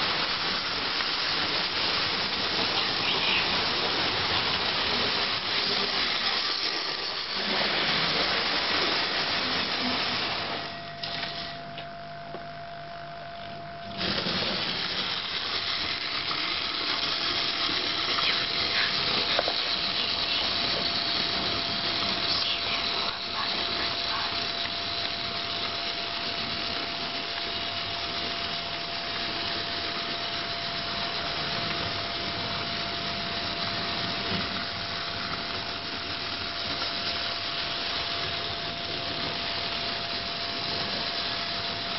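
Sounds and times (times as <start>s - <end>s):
model train motors whirring: 0.0s - 41.9s.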